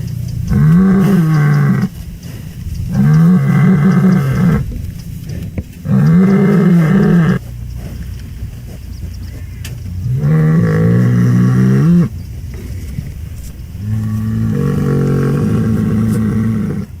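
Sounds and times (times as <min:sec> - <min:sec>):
cow mooing: 0:00.0 - 0:08.1, 0:09.4 - 0:12.2, 0:13.7 - 0:17.0
low background rumble: 0:00.0 - 0:17.0.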